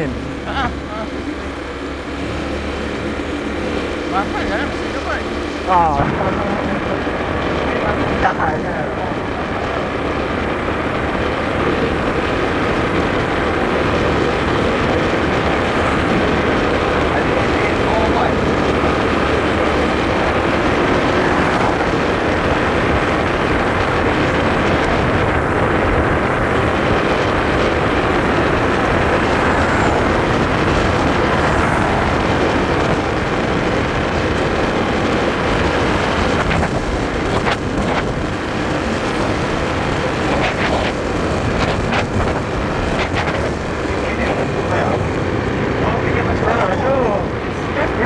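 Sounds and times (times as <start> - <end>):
motorbike engine and tyres: 0.0 - 48.0
wind over microphone: 0.0 - 48.0.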